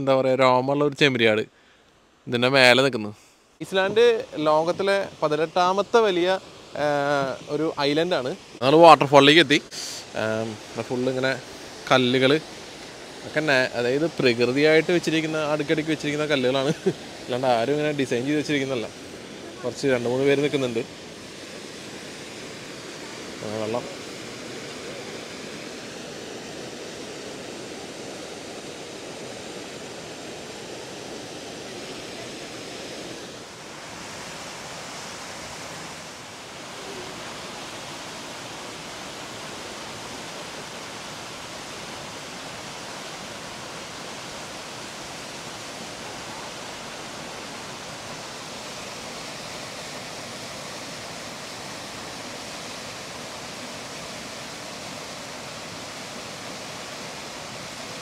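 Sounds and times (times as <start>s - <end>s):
waterfall rushing: 3.6s - 58.0s.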